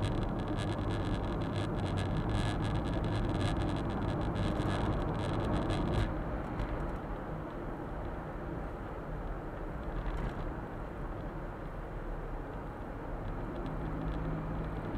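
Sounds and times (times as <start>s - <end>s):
road noise inside cab: 0.0s - 14.9s.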